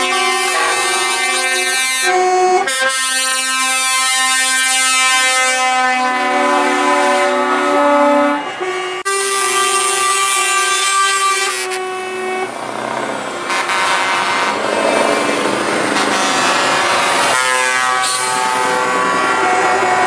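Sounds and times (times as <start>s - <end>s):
truck air horns blowing chords: 0.0s - 20.0s.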